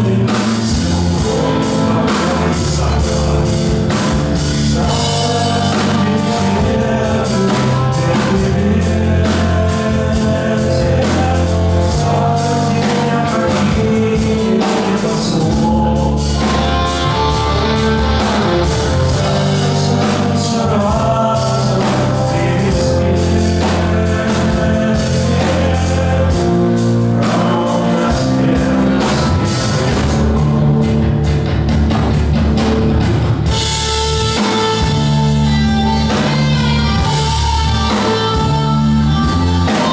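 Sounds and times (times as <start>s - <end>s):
rock song with singing: 0.0s - 39.9s.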